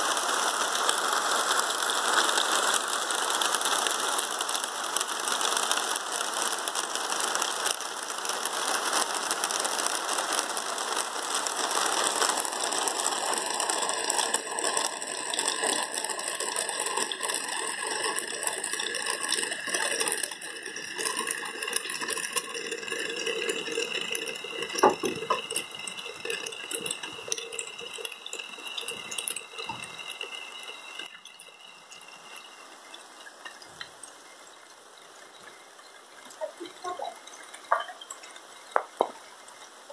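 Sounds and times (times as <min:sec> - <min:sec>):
hail falling: 0:00.0 - 0:39.9.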